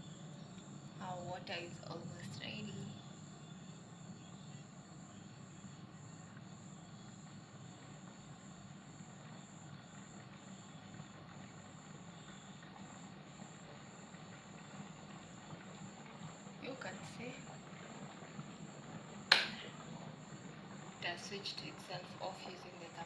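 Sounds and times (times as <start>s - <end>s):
electric kettle heating water: 0.0s - 23.0s.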